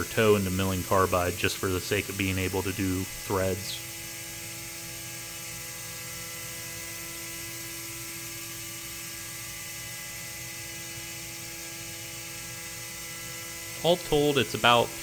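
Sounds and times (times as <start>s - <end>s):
mill spindle running: 0.0s - 15.0s.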